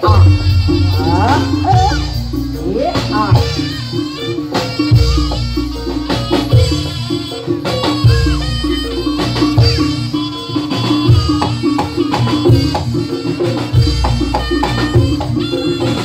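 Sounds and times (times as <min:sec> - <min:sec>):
driving drum strokes: 0:00.0 - 0:16.0
live traditional music with melody: 0:00.0 - 0:16.0.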